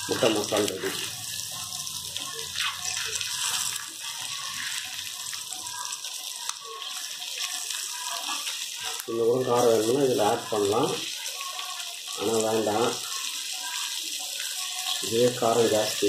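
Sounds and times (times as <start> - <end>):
eggs sizzling in oil: 0.0 - 16.0.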